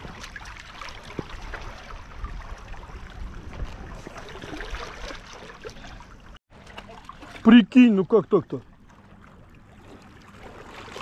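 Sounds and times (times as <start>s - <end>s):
sea water lapping against stone: 0.0s - 11.0s.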